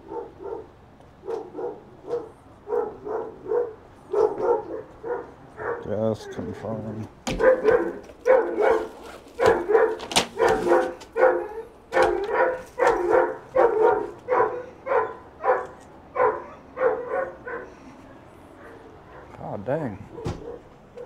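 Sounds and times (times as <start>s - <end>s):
dog barking: 0.0s - 17.8s, 18.5s - 19.4s, 20.1s - 21.0s.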